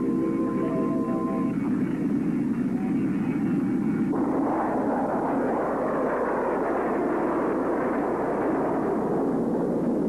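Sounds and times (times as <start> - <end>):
jet aircraft roar: 0.0 - 10.0.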